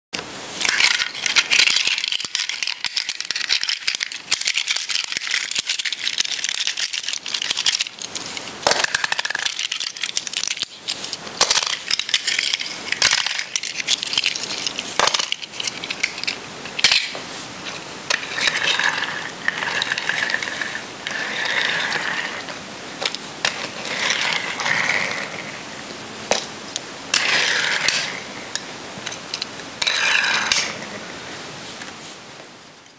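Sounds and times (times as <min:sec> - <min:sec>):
toy cars rattling and rolling: 0:00.6 - 0:26.5, 0:27.1 - 0:31.0.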